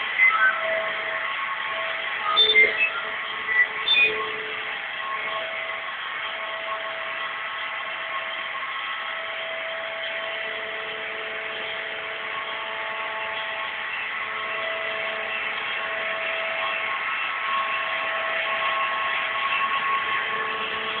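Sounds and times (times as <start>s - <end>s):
robot vacuum cleaner whirring: 0.0s - 21.0s.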